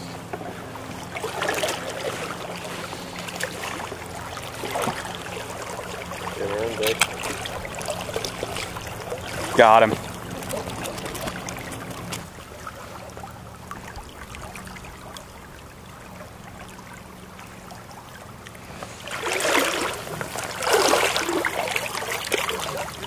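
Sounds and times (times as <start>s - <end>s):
creek water running: 0.0s - 23.0s
water splashing: 0.0s - 23.0s.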